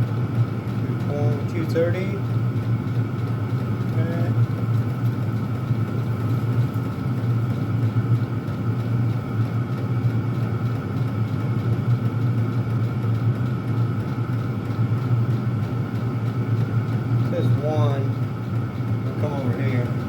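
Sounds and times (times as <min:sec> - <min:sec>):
blower fans whining: 0:00.0 - 0:20.0
heater combustion hum: 0:00.0 - 0:20.0.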